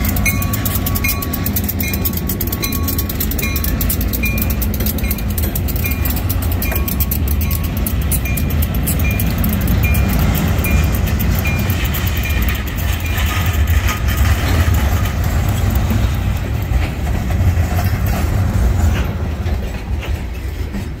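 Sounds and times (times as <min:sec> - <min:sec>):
train wheels rumbling and clattering: 0:00.0 - 0:21.0.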